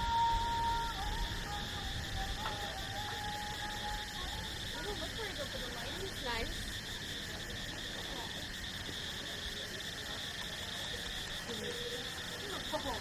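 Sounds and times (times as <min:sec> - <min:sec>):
frogs calling: 0:00.0 - 0:13.0
insects chirping: 0:00.0 - 0:13.0.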